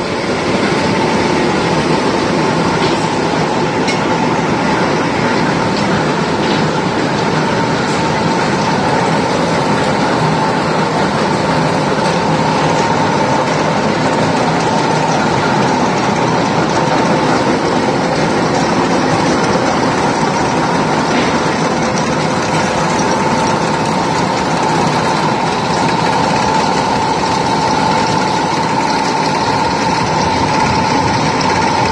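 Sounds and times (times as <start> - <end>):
rolling mill mechanical din: 0.0 - 31.9
steady machine whine: 0.0 - 31.9.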